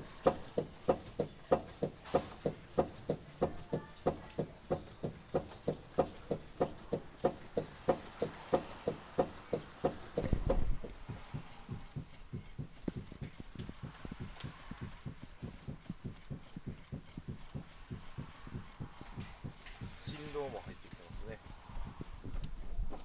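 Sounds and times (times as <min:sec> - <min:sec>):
suspension bushings knocking: 0:00.0 - 0:23.0.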